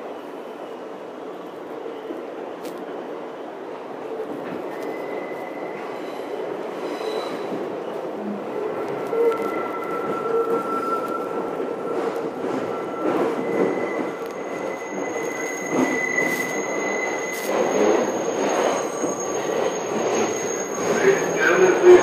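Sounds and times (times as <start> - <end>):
subway car rumble: 0.0 - 22.0
subway wheels squealing: 0.0 - 22.0.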